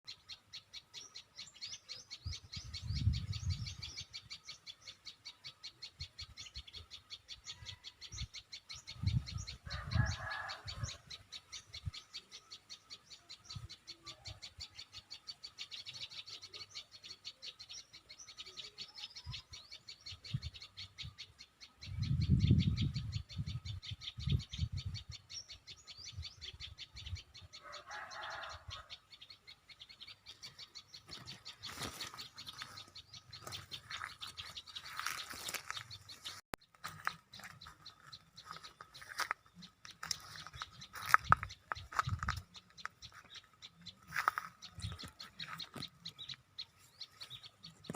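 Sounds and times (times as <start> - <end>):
high bird chirps: 0.1 - 47.9.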